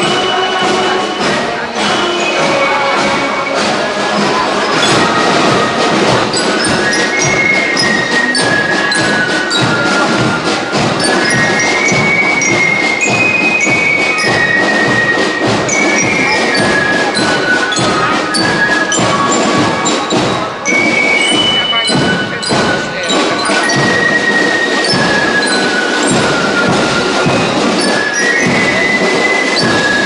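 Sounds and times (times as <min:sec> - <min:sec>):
drums: 0:00.0 - 0:30.0
marching band playing: 0:00.0 - 0:30.0
sharp clicking percussion: 0:00.0 - 0:30.0.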